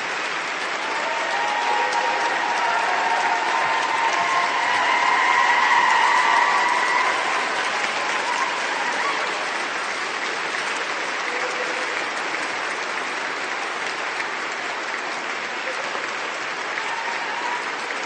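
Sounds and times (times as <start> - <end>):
large audience applauding: 0.0 - 18.0.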